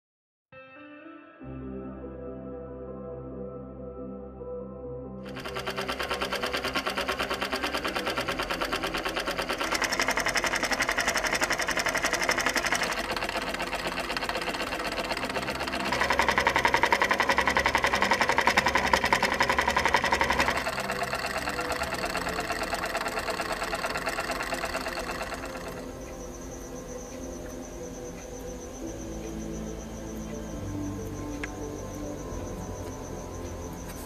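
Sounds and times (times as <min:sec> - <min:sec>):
solenoid engine clattering: 0:05.2 - 0:34.0.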